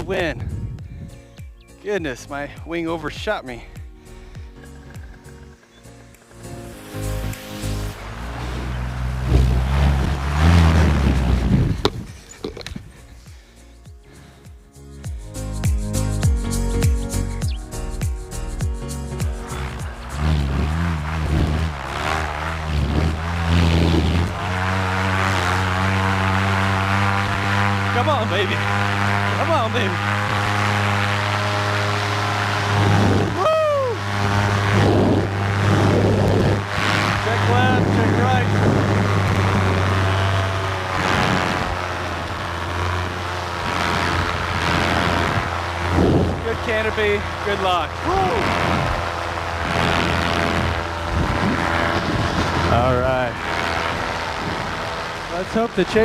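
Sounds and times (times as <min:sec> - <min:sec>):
propeller whirring: 0:00.0 - 0:56.0
paramotor engine revving: 0:01.9 - 0:56.0.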